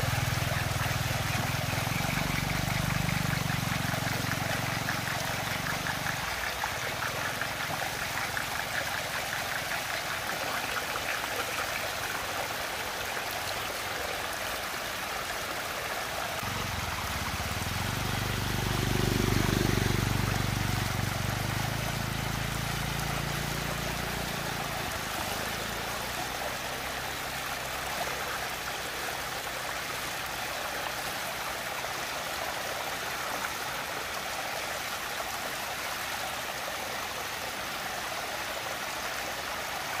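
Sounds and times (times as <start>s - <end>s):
water swirling and draining: 0.0s - 39.5s.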